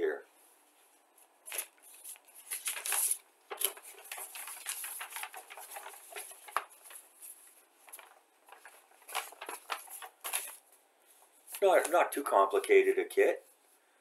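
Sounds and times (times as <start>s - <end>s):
paper rustling and crinkling: 1.2s - 12.8s.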